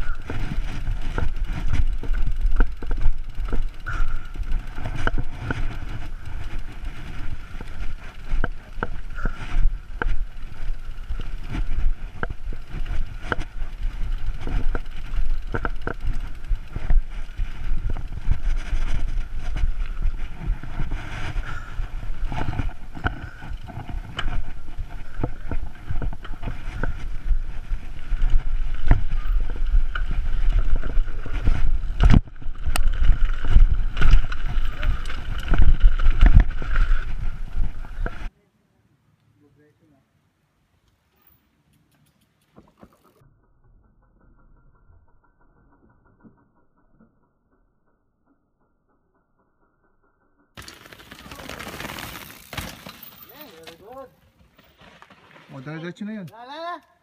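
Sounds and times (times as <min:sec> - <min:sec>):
bike knocking and rattling: 0:00.0 - 0:38.3, 0:41.1 - 0:56.7.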